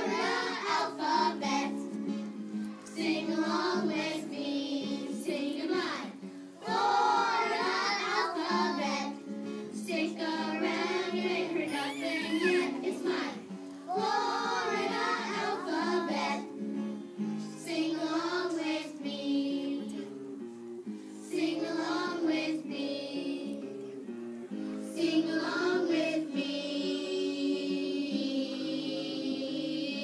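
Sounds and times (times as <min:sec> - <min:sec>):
young children singing: 0:00.0 - 0:02.1, 0:02.7 - 0:20.2, 0:21.2 - 0:24.0, 0:24.7 - 0:30.0
instrumental backing music: 0:00.0 - 0:30.0.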